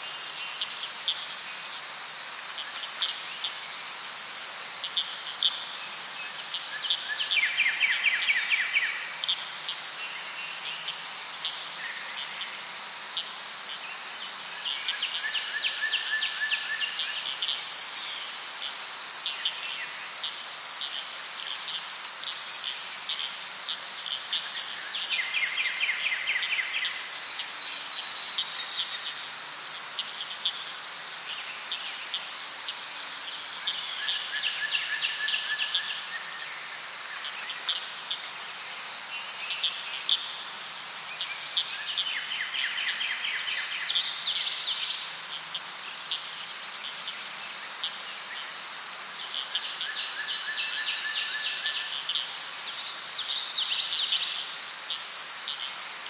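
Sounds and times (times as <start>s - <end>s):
insects droning: 0.0s - 56.0s
rapid cricket chirps: 0.0s - 56.0s.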